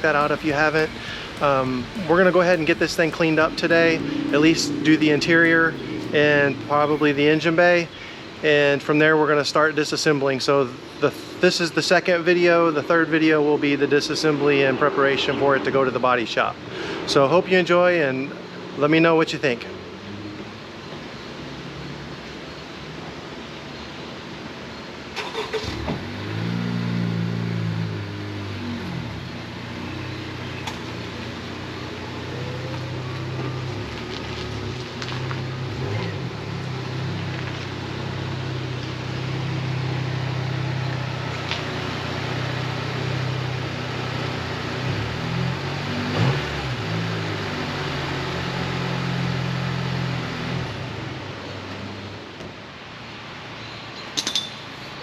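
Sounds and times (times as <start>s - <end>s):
car engine starting and running: 0.0s - 53.8s.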